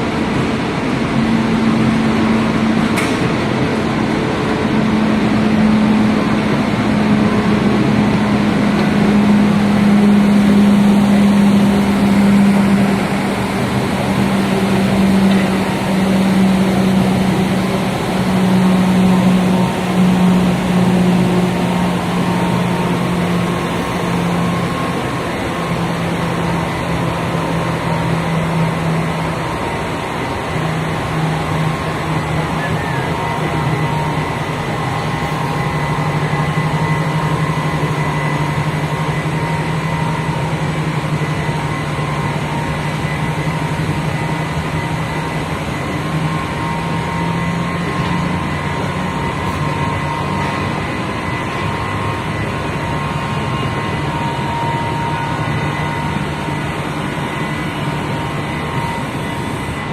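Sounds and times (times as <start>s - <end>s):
machinery mechanical hum: 0.0s - 59.9s.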